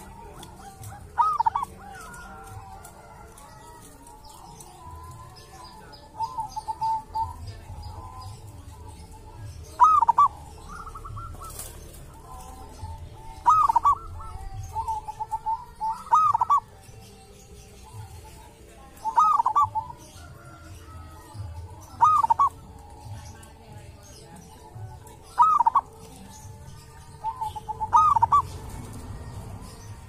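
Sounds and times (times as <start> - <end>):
dove cooing: 0.0 - 30.0
small birds chirping: 0.0 - 30.0.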